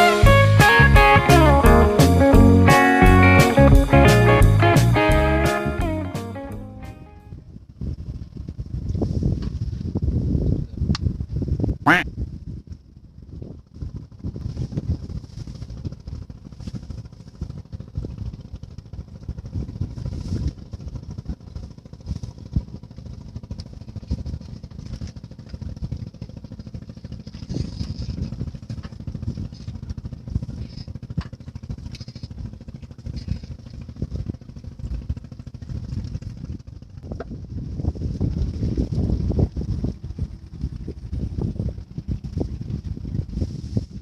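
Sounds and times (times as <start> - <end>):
wind buffeting microphone: 6.8 - 44.0.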